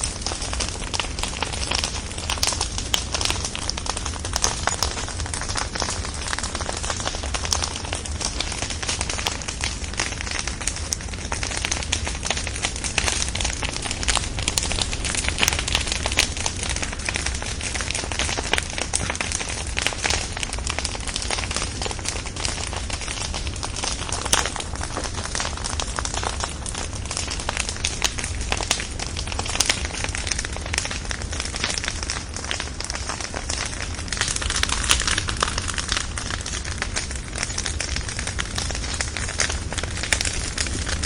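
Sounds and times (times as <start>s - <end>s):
logs crackling and popping: 0.0s - 41.0s.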